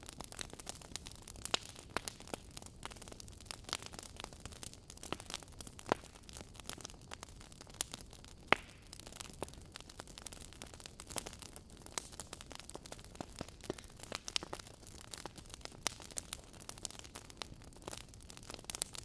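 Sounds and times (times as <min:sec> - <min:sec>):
logs crackling and popping: 0:00.0 - 0:19.0.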